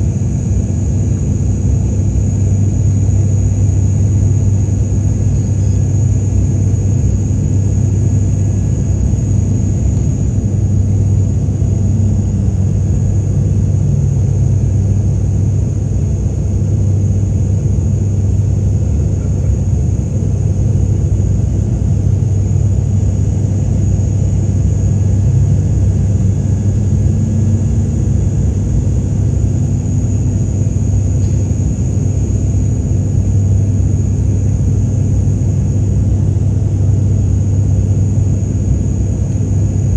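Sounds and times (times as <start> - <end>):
aircraft cabin drone: 0.0 - 39.9
steady high whine: 0.0 - 39.9.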